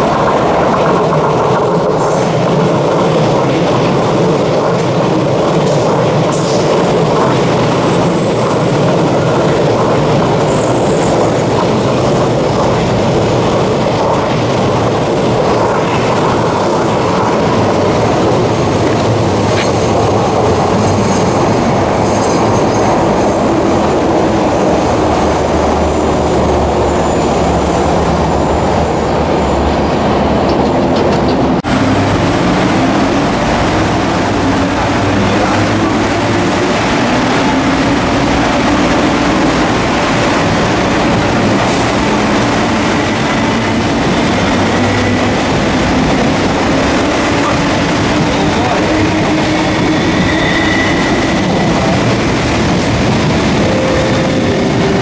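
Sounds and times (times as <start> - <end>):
electric train passing: 0.0 - 55.0
running noise inside a train: 0.0 - 55.0.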